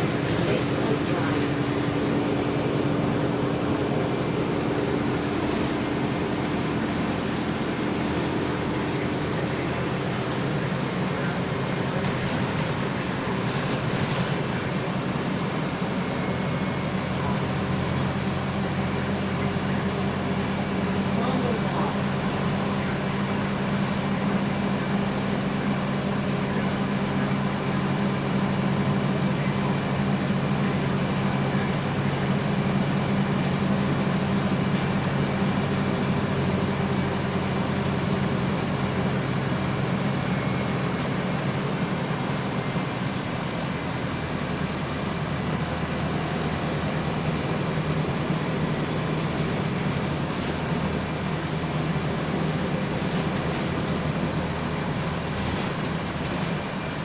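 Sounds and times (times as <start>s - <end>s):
bus interior drone: 0.0s - 57.0s.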